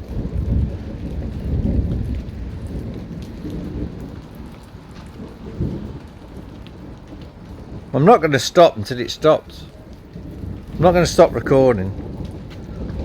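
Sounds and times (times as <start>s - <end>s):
rolling thunder: 0.0s - 13.0s
steady rain: 0.0s - 13.0s.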